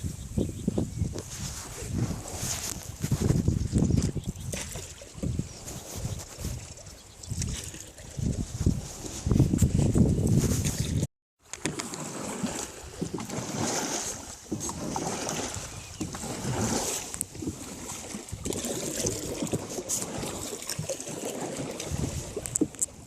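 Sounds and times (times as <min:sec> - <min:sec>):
wind on microphone: 0:00.0 - 0:11.1, 0:12.4 - 0:23.0
water sloshing and splashing: 0:01.1 - 0:23.0.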